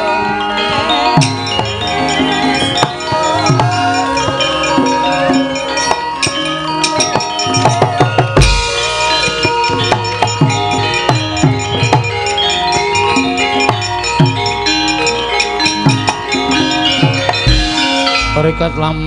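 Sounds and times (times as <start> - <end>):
ringing bronze metallophones: 0.0 - 19.0
drum strokes: 0.7 - 19.0.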